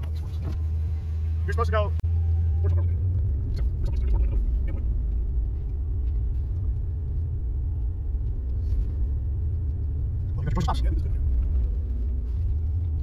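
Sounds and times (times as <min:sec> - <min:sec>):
engine and tyre rumble on gravel: 0:00.0 - 0:13.0.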